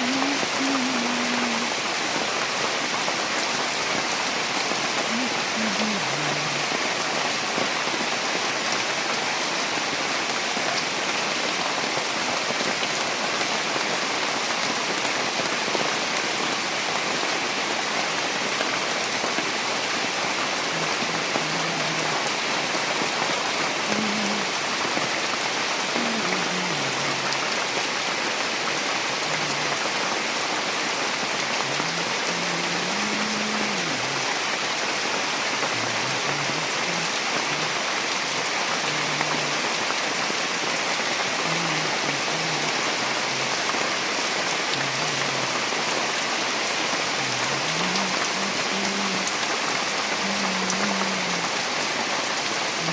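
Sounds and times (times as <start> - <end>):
rain pattering on surfaces: 0.0 - 52.9.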